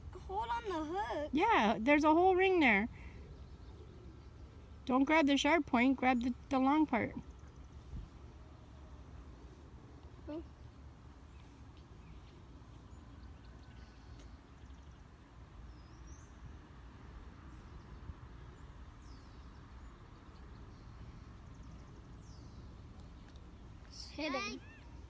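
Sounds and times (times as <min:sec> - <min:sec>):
distant bird chirps and trills: 0:00.0 - 0:25.0.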